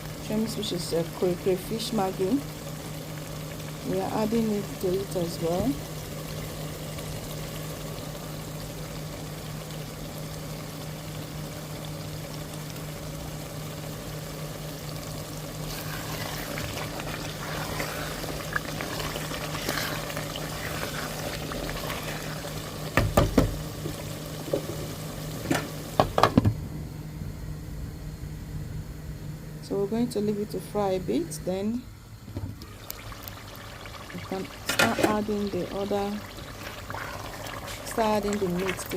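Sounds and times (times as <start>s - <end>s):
sauce sizzling in oil: 0.0s - 26.2s, 32.6s - 38.9s.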